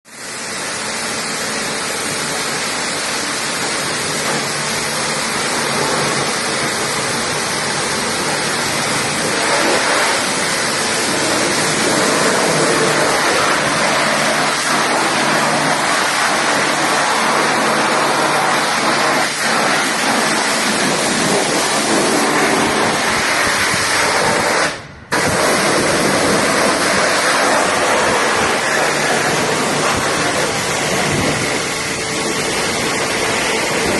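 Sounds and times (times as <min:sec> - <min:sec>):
motor and pump hum: 0:00.1 - 0:33.9
pressure washer spray hiss: 0:00.1 - 0:33.9.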